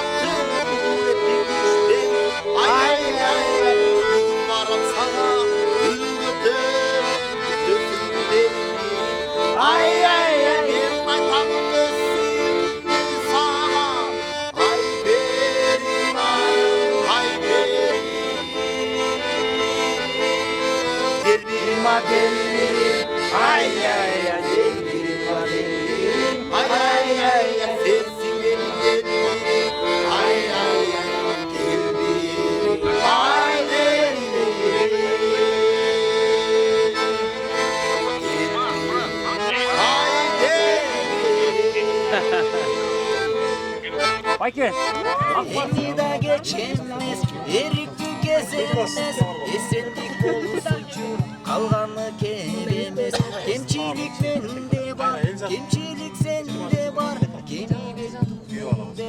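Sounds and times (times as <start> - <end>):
accordion music: 0.0 - 59.0.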